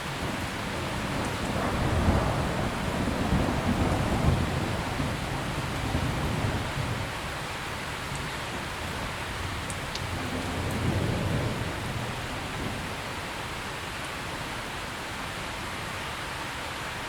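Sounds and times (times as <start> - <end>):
thunder rumbling: 0.0 - 14.8
rain falling: 0.0 - 17.0.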